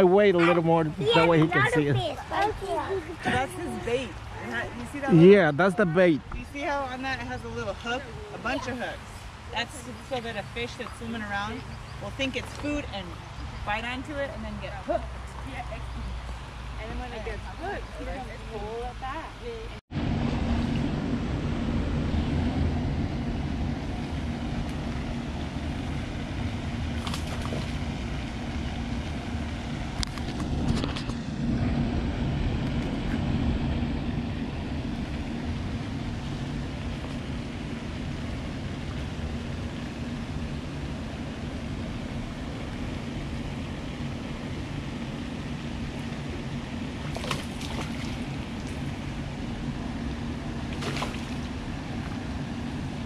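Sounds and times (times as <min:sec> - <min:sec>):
faint steady hum: 0:00.0 - 0:53.0
low outdoor rumble: 0:00.0 - 0:53.0.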